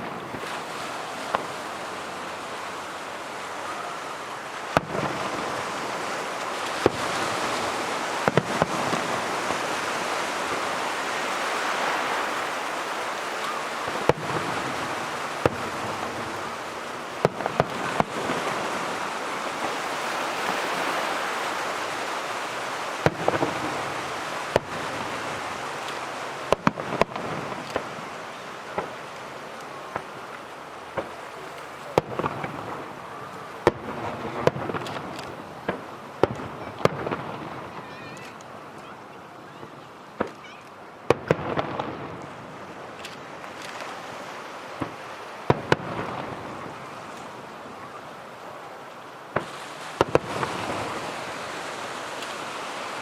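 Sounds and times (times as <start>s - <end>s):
dense hiss: 0.0s - 38.8s, 49.0s - 53.0s
fireworks bangs: 0.0s - 48.6s, 49.3s - 53.0s.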